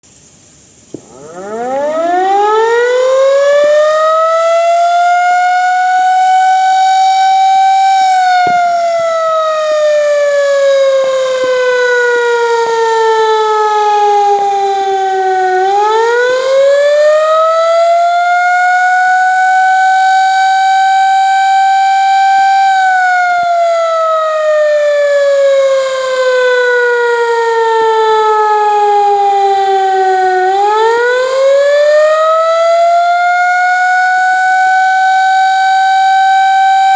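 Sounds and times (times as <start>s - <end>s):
air raid siren wailing: 1.0s - 36.9s.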